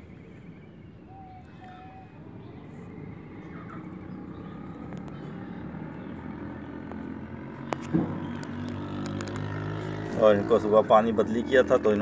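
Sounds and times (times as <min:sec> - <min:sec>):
low engine-like drone: 0:00.0 - 0:12.0.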